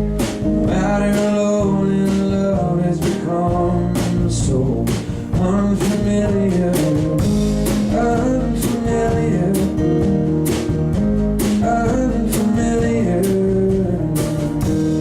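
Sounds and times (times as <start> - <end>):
guitar: 0.0 - 15.0
steady drum beat: 0.0 - 15.0.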